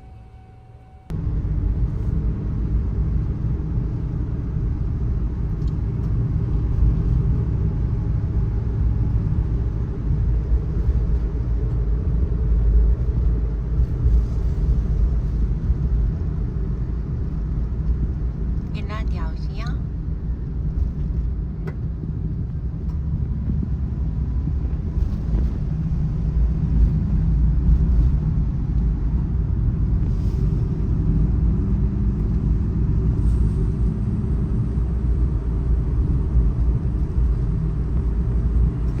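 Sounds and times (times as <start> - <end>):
truck engine and road noise: 0.0 - 39.0.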